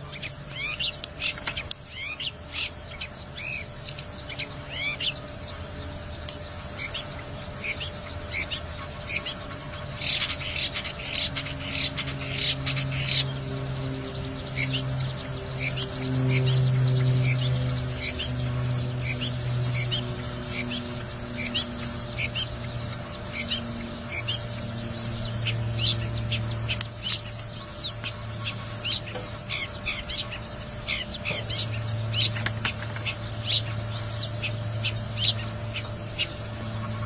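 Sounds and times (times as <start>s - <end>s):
bird singing: 0.0s - 37.0s
low hum: 0.0s - 37.0s.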